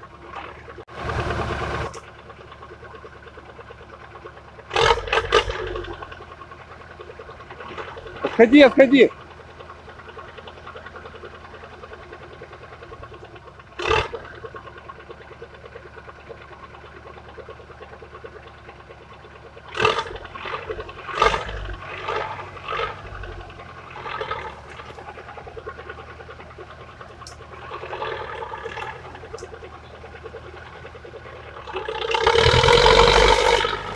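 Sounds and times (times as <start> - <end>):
truck engine revving: 0.0 - 33.9
truck engine throbbing: 0.0 - 33.9.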